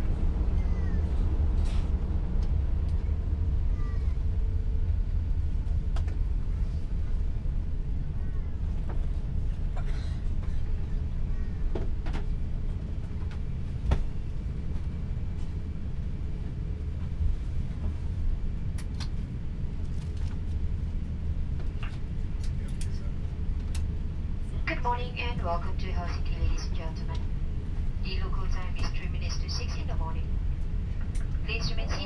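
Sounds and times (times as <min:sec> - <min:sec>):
aircraft engines rumbling: 0:00.0 - 0:32.0.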